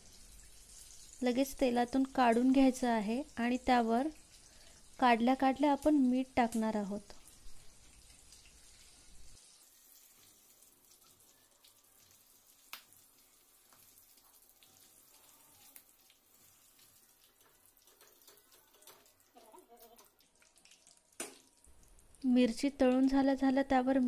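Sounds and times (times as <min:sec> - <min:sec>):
chillies sizzling in hot oil: 0:00.0 - 0:24.0.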